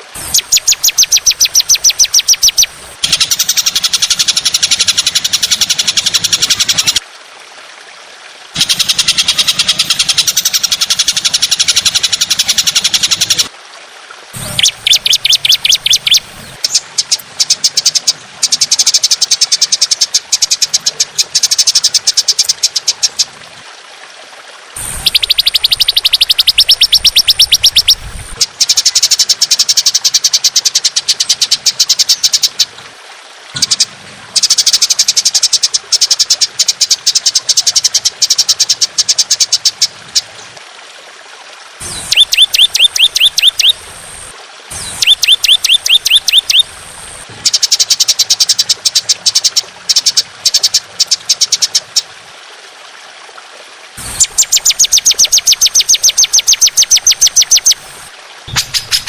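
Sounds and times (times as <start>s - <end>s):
songbird singing: 0.2s - 7.0s, 8.6s - 13.5s, 14.4s - 23.3s, 24.8s - 32.7s, 33.6s - 39.9s, 41.8s - 52.0s, 54.0s - 59.0s.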